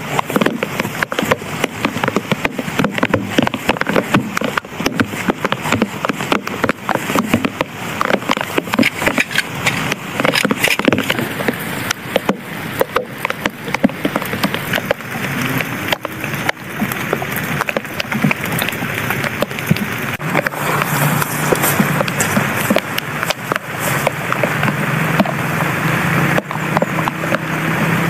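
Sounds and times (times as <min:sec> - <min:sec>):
heavy rain hiss: 0:00.0 - 0:28.0
raindrops tapping on plastic: 0:00.0 - 0:28.0.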